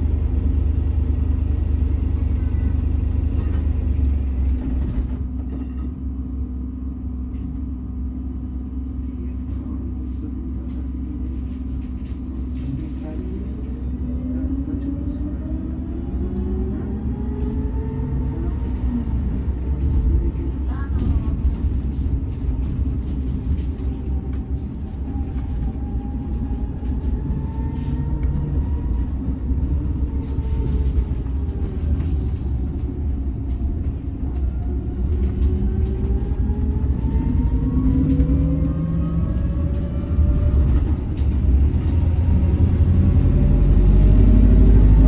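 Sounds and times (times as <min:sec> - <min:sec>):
bus engine rumbling: 0:00.0 - 0:45.0.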